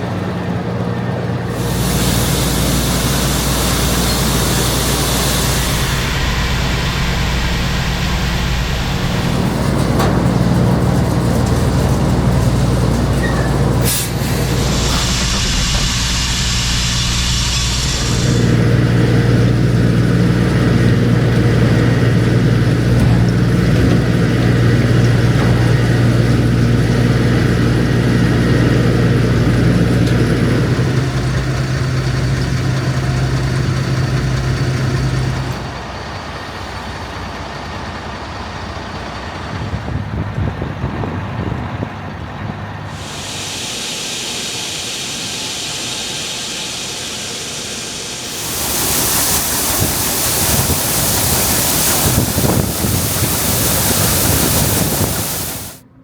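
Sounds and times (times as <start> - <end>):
large diesel engine running: 0.0 - 56.0
hiss: 1.5 - 35.8, 42.9 - 55.8.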